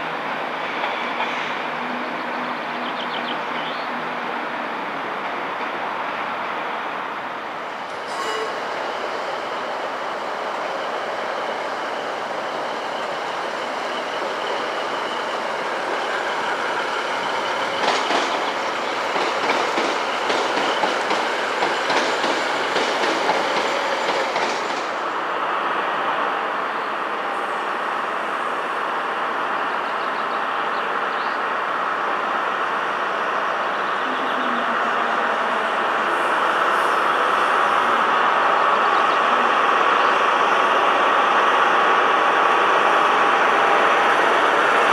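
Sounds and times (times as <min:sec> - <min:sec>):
train running on rails: 0:00.0 - 0:44.9.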